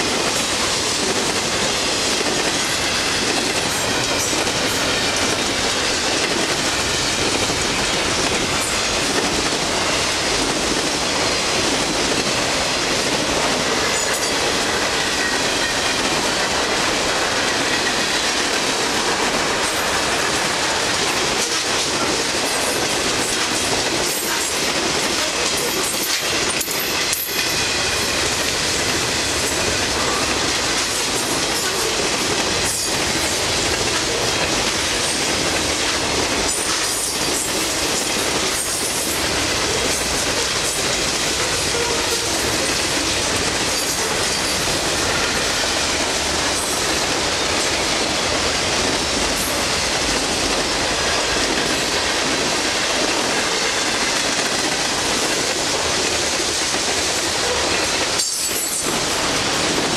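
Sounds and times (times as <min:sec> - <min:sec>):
wheels clicking over rail joints: 0:00.0 - 0:48.0
freight train rolling past: 0:00.0 - 0:59.9.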